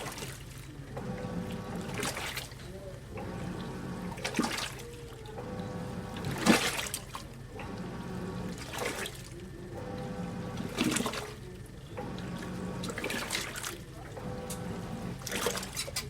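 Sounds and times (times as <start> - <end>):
motor hum: 0.0 - 15.9
water swishing in washing machine: 0.0 - 16.0.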